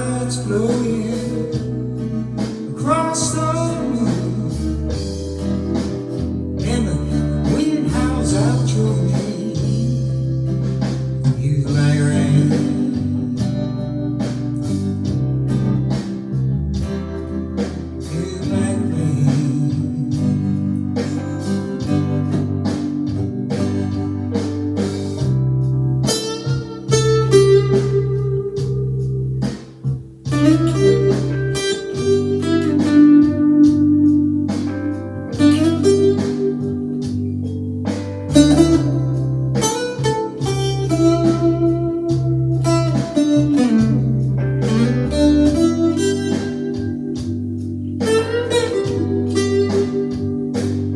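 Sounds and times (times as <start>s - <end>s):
backing band: 0.0s - 50.9s
held bass notes: 0.0s - 50.9s
lead guitar bending notes: 0.0s - 50.9s.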